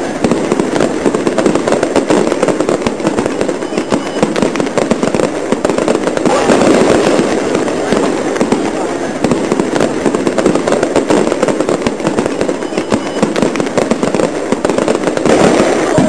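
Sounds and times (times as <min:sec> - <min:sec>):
fireworks crackling and popping: 0:00.0 - 0:16.0.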